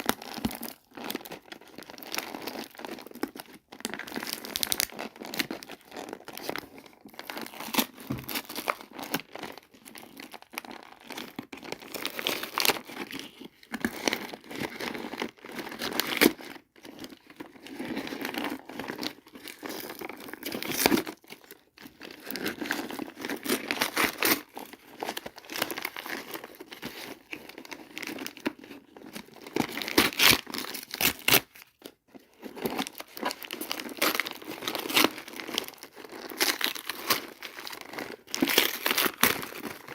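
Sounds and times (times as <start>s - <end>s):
toy packaging crinkling and tearing: 0.0s - 39.9s.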